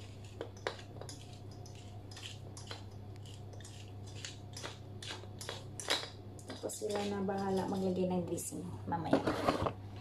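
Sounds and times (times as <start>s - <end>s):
pepper mill grinding: 0.0s - 8.6s
steady low hum: 0.0s - 10.0s.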